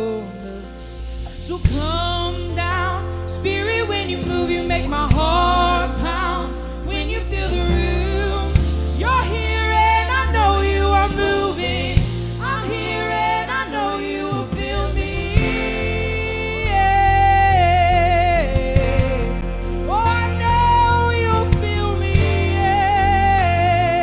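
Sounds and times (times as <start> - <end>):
band playing slow gospel song: 0.0 - 24.0.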